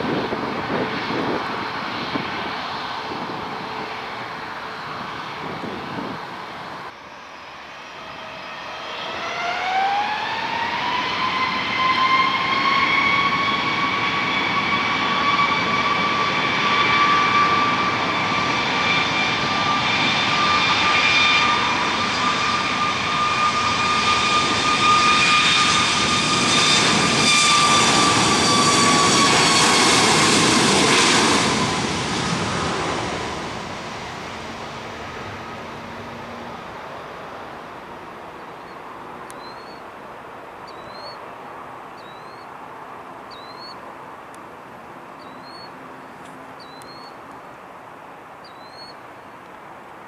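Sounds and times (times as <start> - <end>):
high turbine whine: 0.0 - 50.0
jet engines roaring: 0.0 - 50.0.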